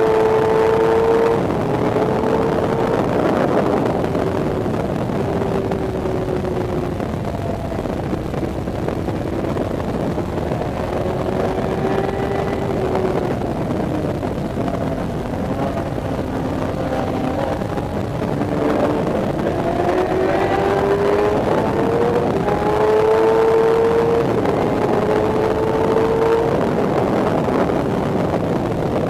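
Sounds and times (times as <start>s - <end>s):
motorcycle engine revving: 0.0s - 29.0s
wind noise: 0.0s - 29.0s.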